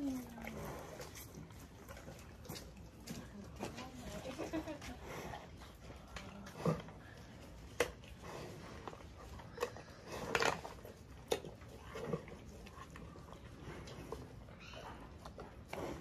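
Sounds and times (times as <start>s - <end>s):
lion chewing meat: 0.0s - 16.0s.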